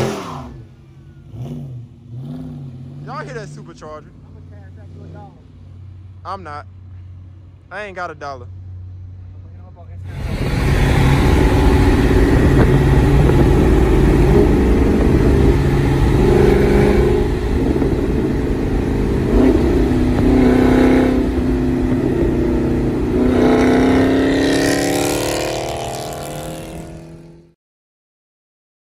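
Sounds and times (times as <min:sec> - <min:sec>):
car engine revving high: 0:00.0 - 0:07.2, 0:07.8 - 0:27.6.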